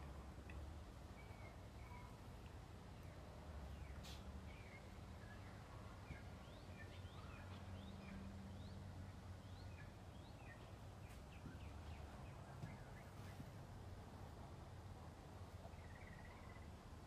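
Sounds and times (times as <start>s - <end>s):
low steady hum: 0.0s - 17.0s
small birds chirping: 0.4s - 13.8s, 15.4s - 17.0s.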